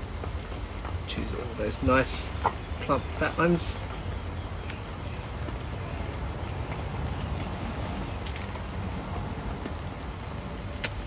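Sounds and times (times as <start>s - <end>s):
faint crackles: 0.0s - 11.0s.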